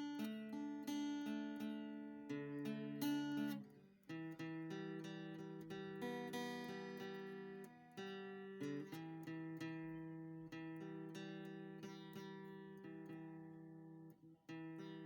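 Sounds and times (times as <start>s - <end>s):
plucked acoustic guitar: 0.0s - 15.0s.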